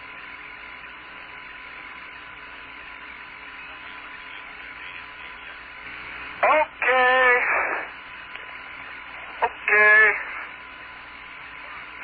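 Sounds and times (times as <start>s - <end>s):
radio hiss: 0.0s - 12.0s.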